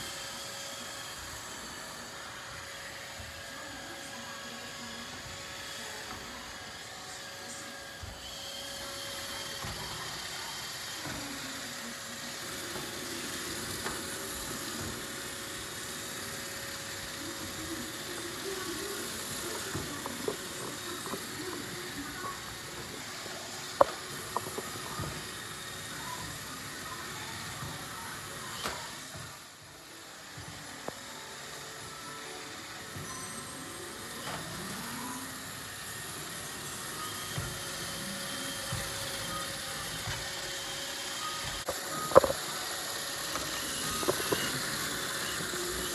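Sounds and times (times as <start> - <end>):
robot vacuum whirring: 0.0 - 45.9.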